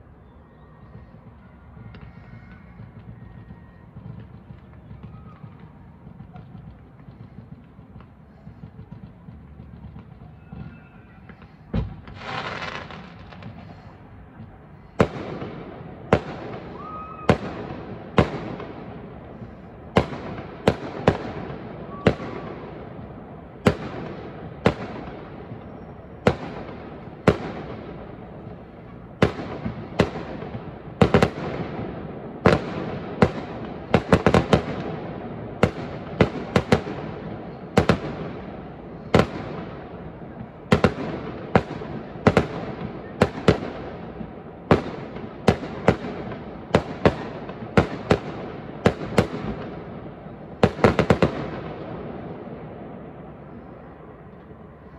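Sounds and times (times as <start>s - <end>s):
fireworks crackle: 0.0s - 54.9s.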